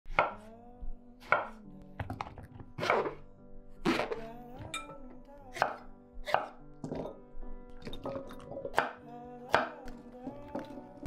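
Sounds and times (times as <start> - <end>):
faint background music: 0.1 - 11.0.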